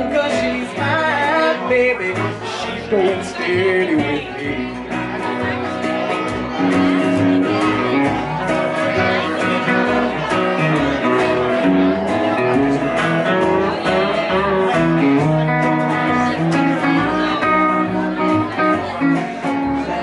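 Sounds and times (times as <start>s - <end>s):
electric guitar: 0.0s - 20.0s
strummed acoustic guitar: 0.0s - 20.0s
upright double bass: 0.0s - 20.0s.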